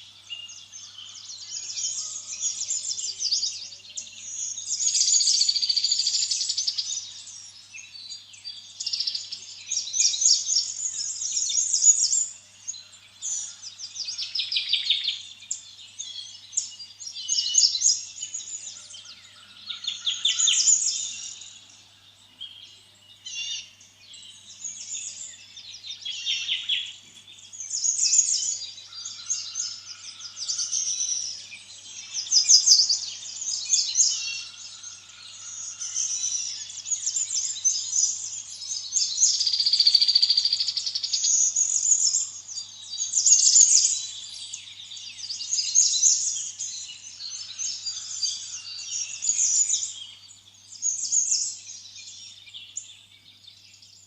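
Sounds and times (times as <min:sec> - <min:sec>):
birds singing and chirping: 0:00.0 - 0:54.0.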